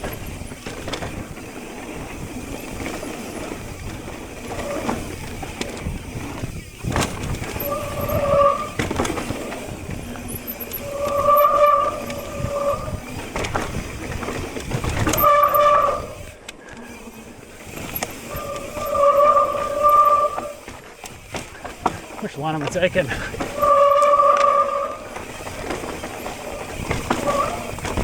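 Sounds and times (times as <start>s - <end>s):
disc brakes squealing: 0.0s - 14.0s, 14.6s - 28.0s
tyre and chassis rattle: 0.0s - 28.0s.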